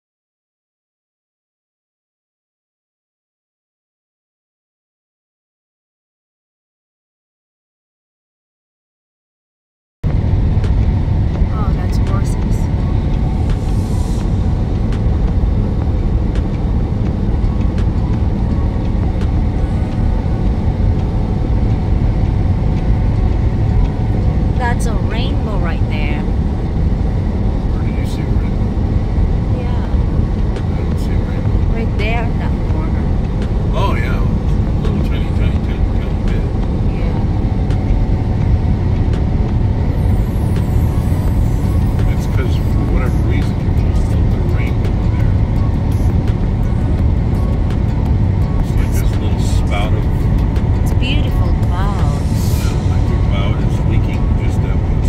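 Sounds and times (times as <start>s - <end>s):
truck cab low rumble: 10.1s - 55.0s.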